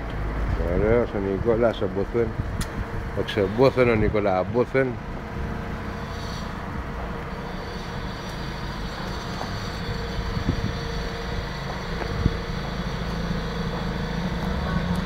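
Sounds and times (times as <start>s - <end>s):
rotary engine idling: 0.0s - 15.0s.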